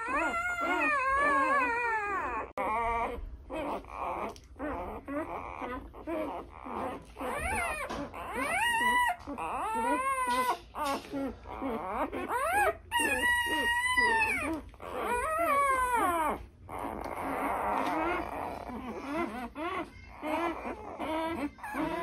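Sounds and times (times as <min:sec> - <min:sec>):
puppies crying: 0:00.0 - 0:22.0.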